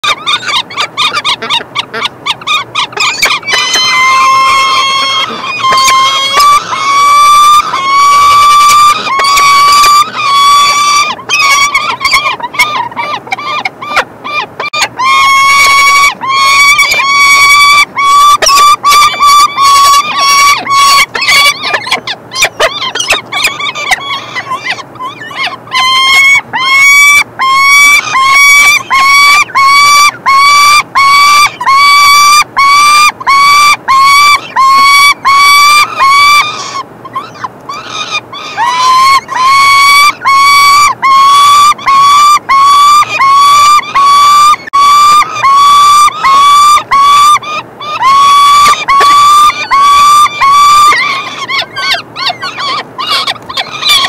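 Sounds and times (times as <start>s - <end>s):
falcon chicks begging calls: 0.0s - 54.0s.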